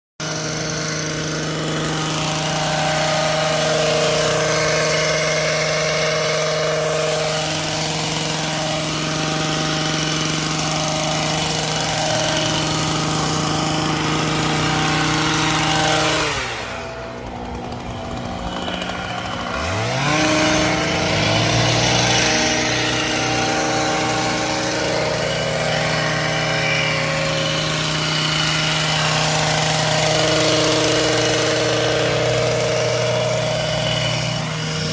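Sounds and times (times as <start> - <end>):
hedge trimmer running: 0.2 - 34.9.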